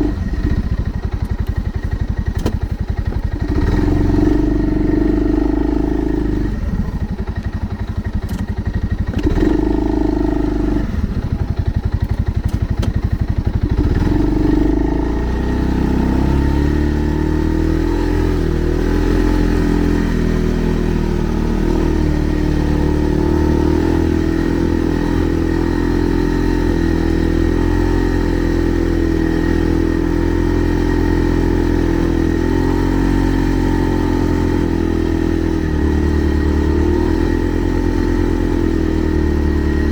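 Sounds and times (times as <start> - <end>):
all-terrain vehicle engine running: 0.0 - 39.9.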